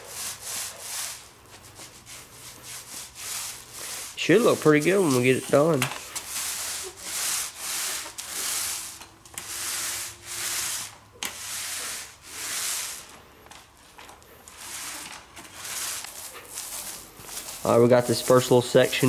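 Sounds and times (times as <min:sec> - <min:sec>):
paint roller rasping on concrete: 0:00.0 - 0:13.2, 0:14.4 - 0:19.0.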